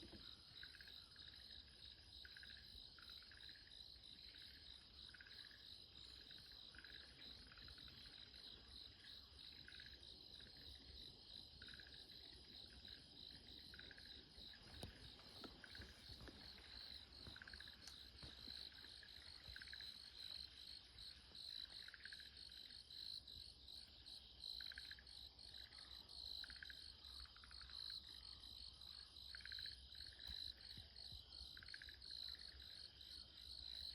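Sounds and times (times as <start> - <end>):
faint trilling frog calls: 0.0 - 22.7, 24.5 - 30.6, 31.4 - 32.8
crickets and insects chorus: 0.0 - 33.9.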